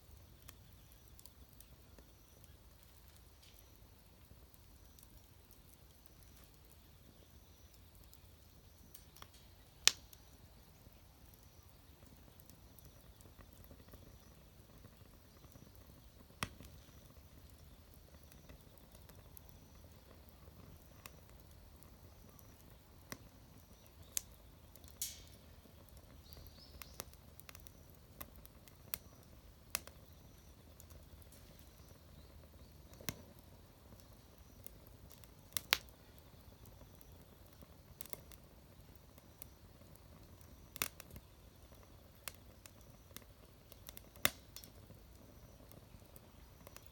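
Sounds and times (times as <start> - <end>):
faint steady background noise: 0.0 - 46.9
wood fire crackling and popping: 0.0 - 46.9.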